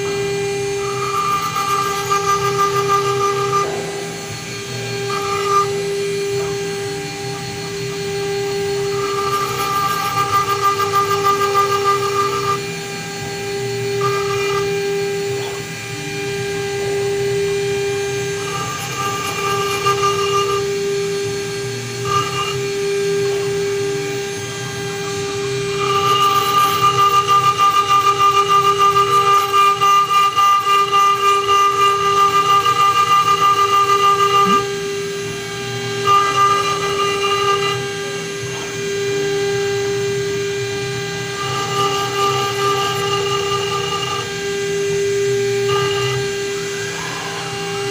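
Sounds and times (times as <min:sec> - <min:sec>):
engraving bit cutting brass: 0:00.0 - 0:47.9
router spindle whining: 0:00.0 - 0:47.9.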